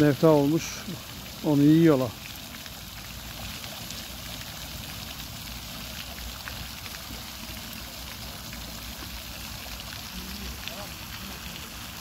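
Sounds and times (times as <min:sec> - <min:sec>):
water running and splashing: 0:00.0 - 0:12.0.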